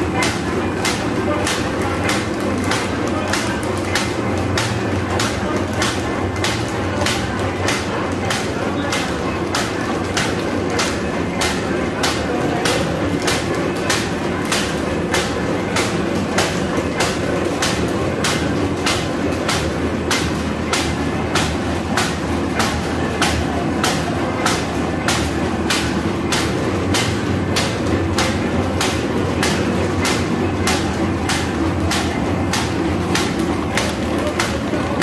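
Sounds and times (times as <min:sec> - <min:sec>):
machine clacking: 0:00.0 - 0:35.0.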